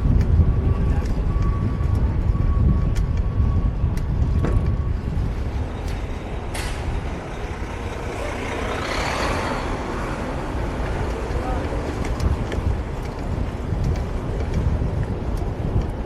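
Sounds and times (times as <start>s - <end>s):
city street traffic: 0.0s - 16.0s
wind rumbling on microphone: 0.0s - 16.0s.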